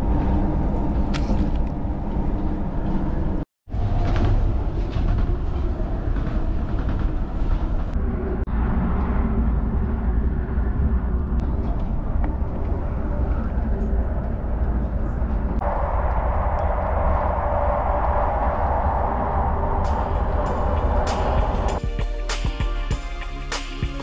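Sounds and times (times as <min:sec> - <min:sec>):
train running noise inside car: 0:00.0 - 0:21.8.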